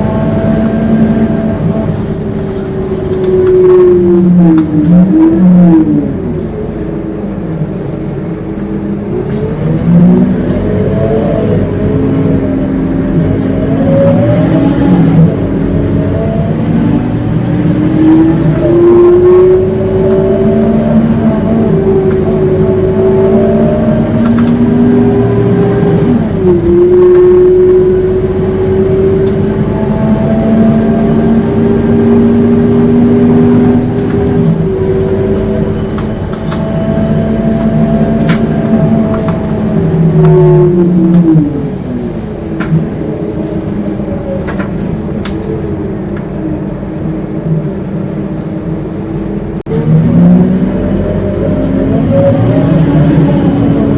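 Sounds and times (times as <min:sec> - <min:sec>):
bus drivetrain howl: 0:00.0 - 0:53.9.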